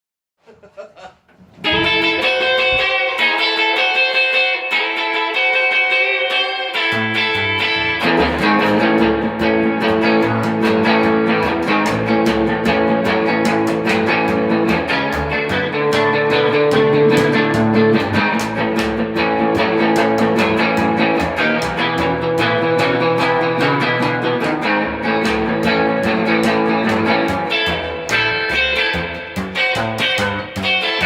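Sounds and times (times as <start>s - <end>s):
rock band playing boogie: 1.6s - 31.0s.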